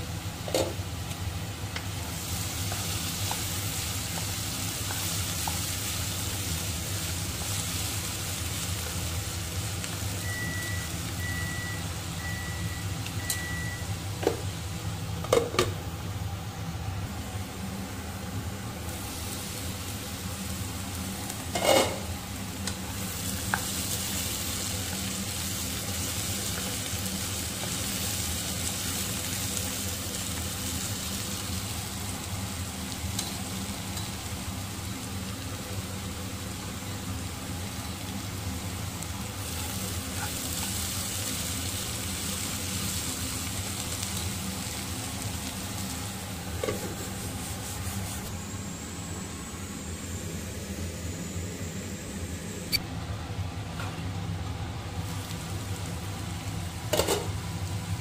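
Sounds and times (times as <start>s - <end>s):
carrots sizzling in a pan: 0.0s - 52.3s, 53.5s - 58.0s.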